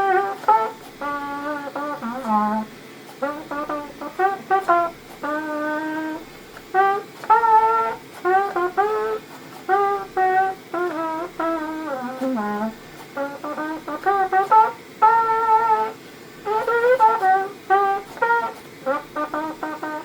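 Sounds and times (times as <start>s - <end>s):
trumpet playing a tune: 0.0s - 20.0s.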